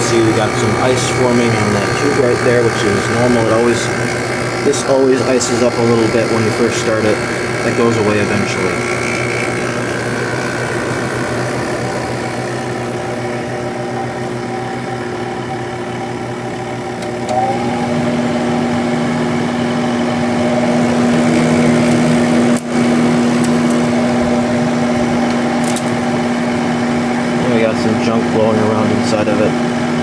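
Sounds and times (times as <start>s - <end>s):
air conditioner hum: 0.0s - 30.0s
fan motor bearing noise: 0.0s - 30.0s
louder steady hum tone: 0.0s - 30.0s.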